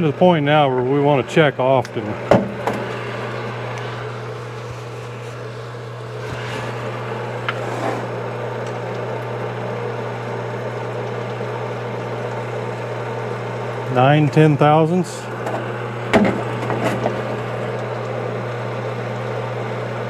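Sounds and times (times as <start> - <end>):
honing machine motor humming: 0.0 - 20.0
oil flowing: 0.0 - 20.0.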